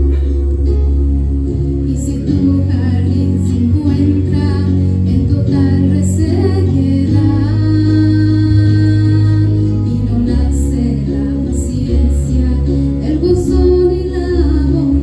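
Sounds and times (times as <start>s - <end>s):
instrumental accompaniment: 0.0s - 15.0s
woman singing: 1.8s - 15.0s.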